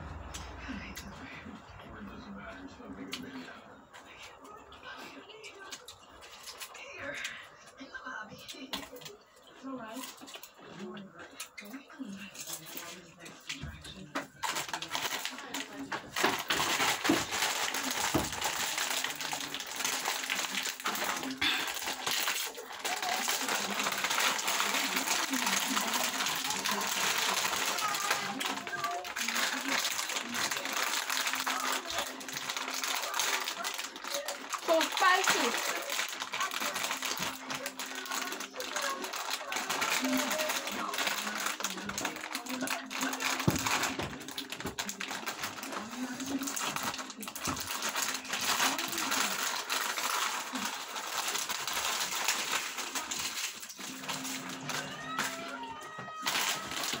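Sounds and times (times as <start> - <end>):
snack wrappers crinkling: 5.0 - 7.5, 8.4 - 57.0.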